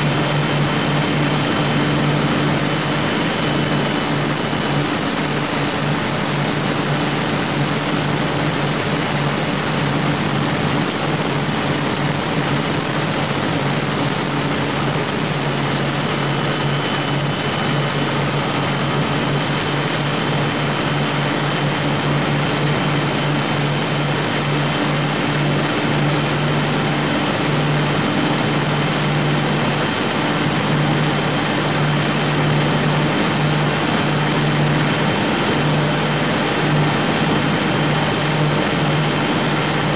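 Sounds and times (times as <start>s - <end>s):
boat diesel engines droning: 0.0s - 39.9s.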